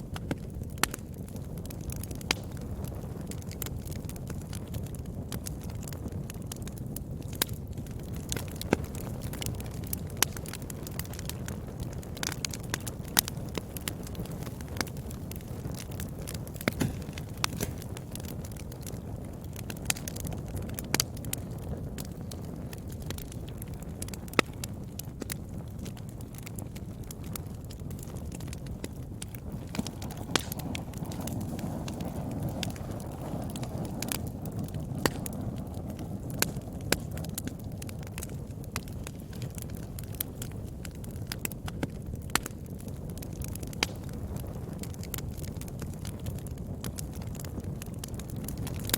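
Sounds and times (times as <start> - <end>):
fire crackling and popping: 0.0 - 48.9
low rumble of flames: 0.0 - 48.9.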